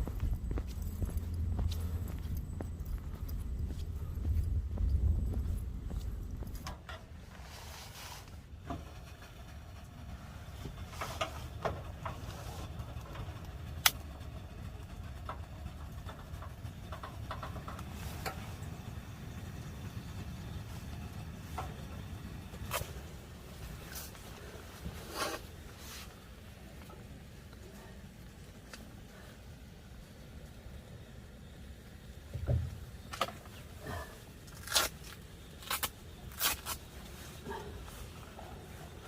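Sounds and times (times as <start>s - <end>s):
gas stove burner rumble: 0.0s - 34.4s.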